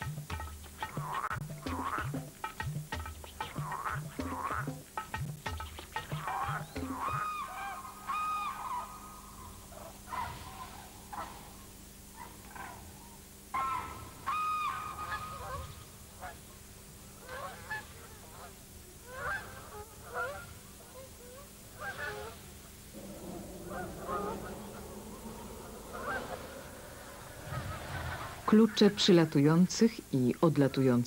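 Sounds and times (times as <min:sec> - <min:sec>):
geese honking: 0:00.8 - 0:02.2, 0:03.2 - 0:11.5, 0:12.2 - 0:16.6, 0:17.2 - 0:29.3.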